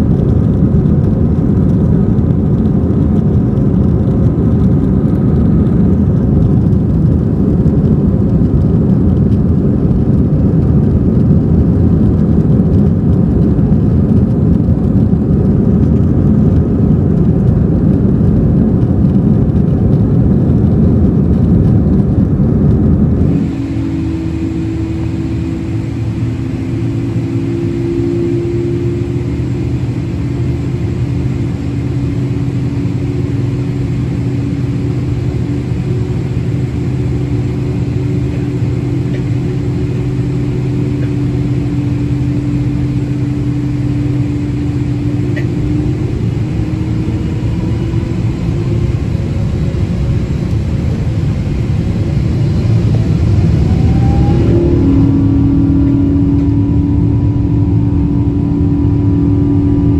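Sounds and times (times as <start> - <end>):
airliner engines rumbling: 0.0 - 59.9.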